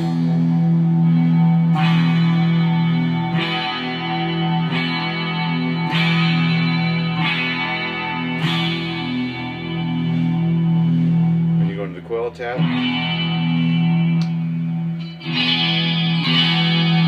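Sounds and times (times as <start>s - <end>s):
electric guitar through amplifier: 0.0s - 17.0s.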